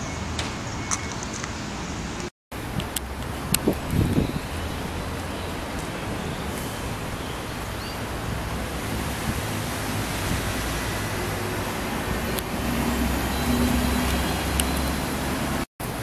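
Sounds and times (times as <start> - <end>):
wind noise: 0.0 - 16.0.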